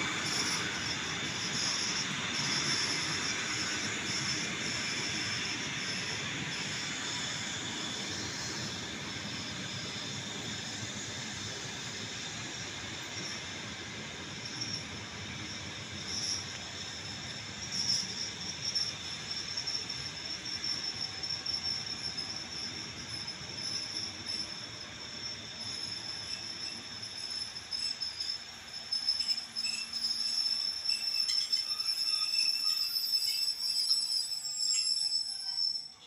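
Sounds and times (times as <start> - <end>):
high-pitched brake squeal: 0.0 - 36.0
train wheels rumbling on rails: 0.0 - 36.0.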